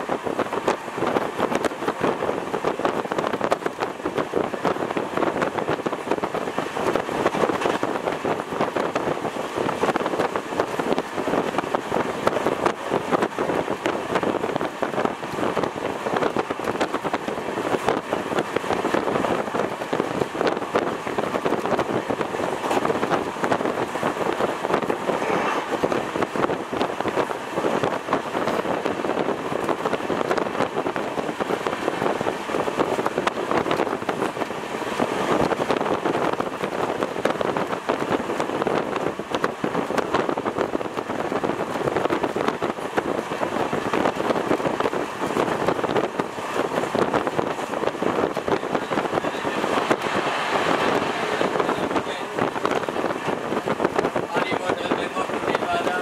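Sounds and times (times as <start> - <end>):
train rumble inside coach: 0.0 - 56.0
wheels clattering on rails: 0.0 - 56.0.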